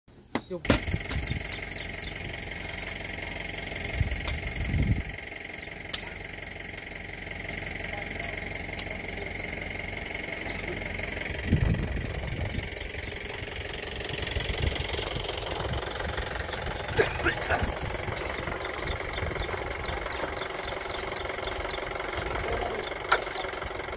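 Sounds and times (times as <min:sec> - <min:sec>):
low engine rumbles: 0:00.3 - 0:23.9
diesel engine idling: 0:00.6 - 0:23.9.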